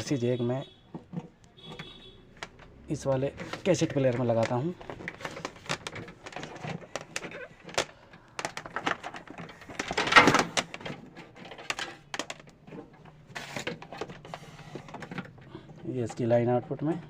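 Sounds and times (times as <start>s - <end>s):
cable plugs clicking and knocking: 0.9s - 17.0s.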